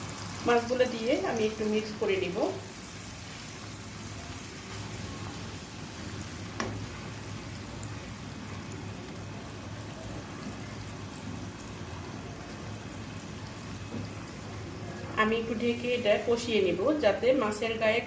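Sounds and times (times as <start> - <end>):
fish sizzling in a pan: 0.0 - 17.6.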